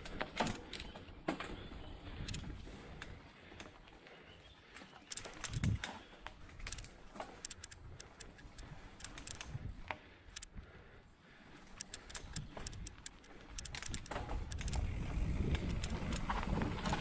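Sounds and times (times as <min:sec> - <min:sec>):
bike clicking and rattling: 0:00.0 - 0:10.8, 0:11.4 - 0:17.0.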